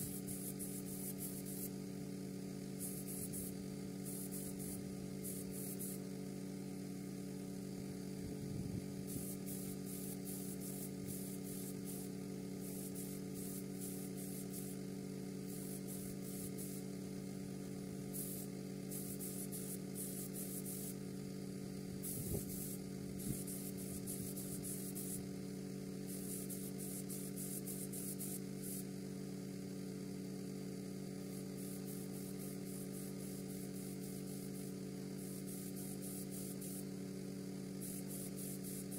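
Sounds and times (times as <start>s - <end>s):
paint spray gun hissing: 0.0s - 38.9s
steady low hum: 0.0s - 38.9s.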